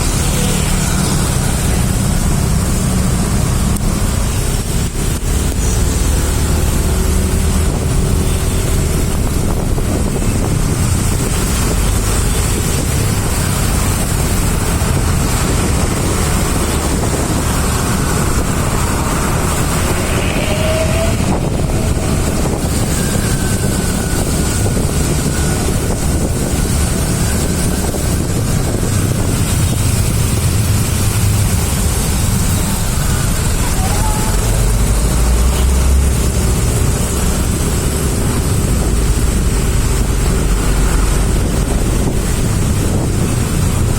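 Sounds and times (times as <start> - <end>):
road traffic rumbling: 0.0 - 43.9
wind buffeting microphone: 0.0 - 43.9.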